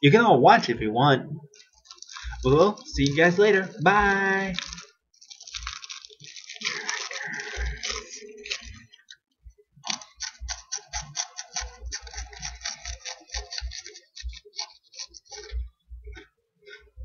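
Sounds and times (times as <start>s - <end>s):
person chewing crackers: 1.5s - 16.8s.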